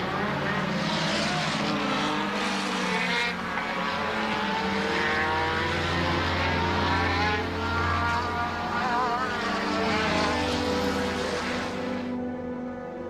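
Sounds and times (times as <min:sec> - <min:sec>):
race car engines at high revs: 0:00.0 - 0:12.2.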